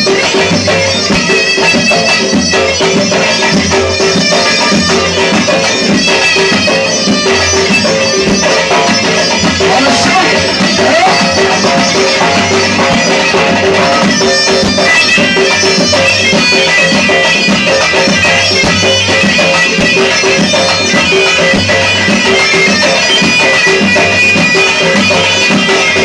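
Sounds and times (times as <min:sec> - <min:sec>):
drum beating steady pulse: 0:00.0 - 0:26.0
reed wind instrument melody: 0:00.0 - 0:26.0.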